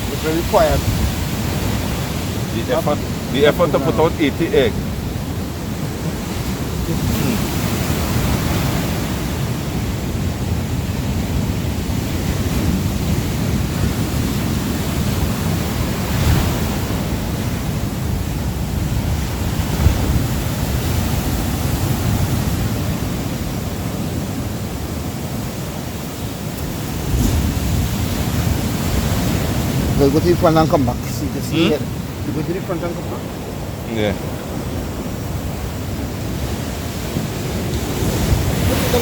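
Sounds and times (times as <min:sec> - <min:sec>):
surf breaking on beach: 0:00.0 - 0:39.0
wind on microphone: 0:00.0 - 0:39.0.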